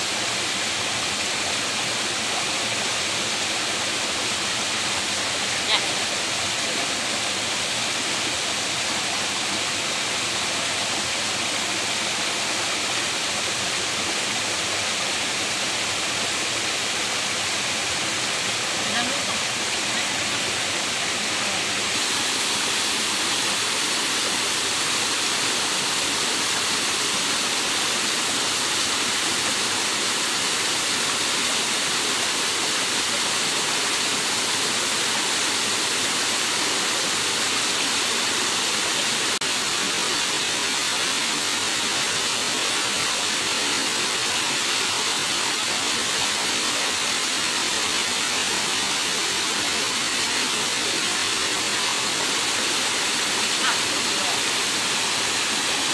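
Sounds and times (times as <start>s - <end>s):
water rushing over rocks: 0.0s - 55.9s.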